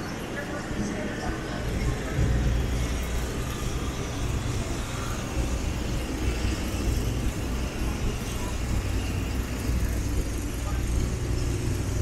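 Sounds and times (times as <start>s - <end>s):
road noise: 0.0s - 12.0s
vehicle engine rumbling: 0.0s - 12.0s.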